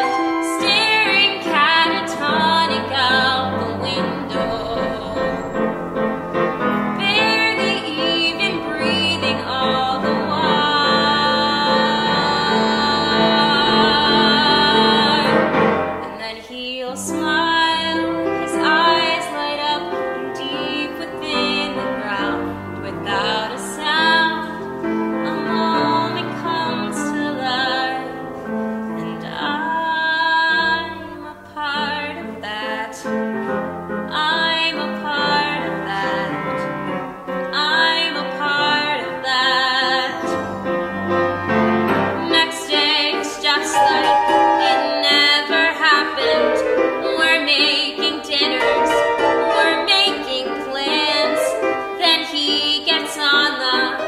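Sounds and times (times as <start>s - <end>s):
woman singing with vibrato: 0.0s - 33.3s, 34.1s - 36.9s, 37.5s - 40.7s, 42.1s - 54.0s
grand piano accompaniment: 0.0s - 54.0s.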